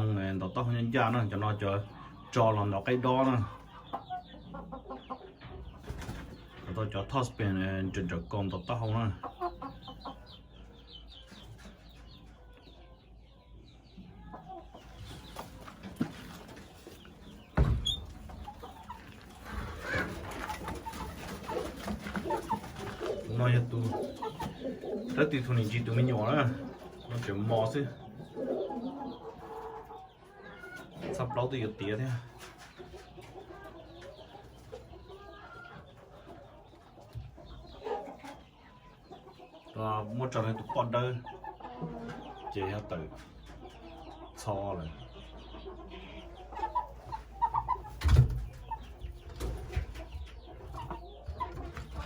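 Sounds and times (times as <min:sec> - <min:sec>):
chickens clucking softly: 0:00.0 - 0:52.0.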